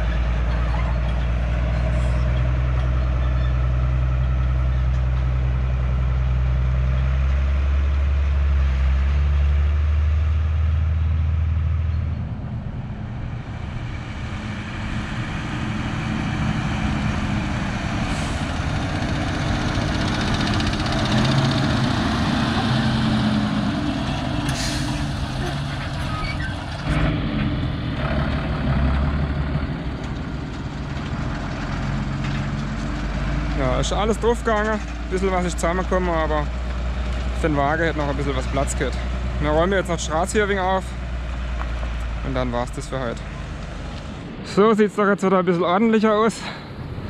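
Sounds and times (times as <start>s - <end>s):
rough tractor engine passing: 0.0s - 47.0s
tractor diesel engine drone: 0.0s - 47.0s
tyres and trailer rolling: 0.0s - 47.0s.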